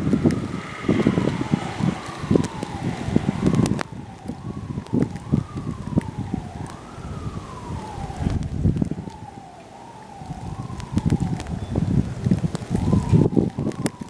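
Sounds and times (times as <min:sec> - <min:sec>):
distant siren wailing: 0:00.0 - 0:14.0
wind buffeting microphone: 0:00.0 - 0:14.0.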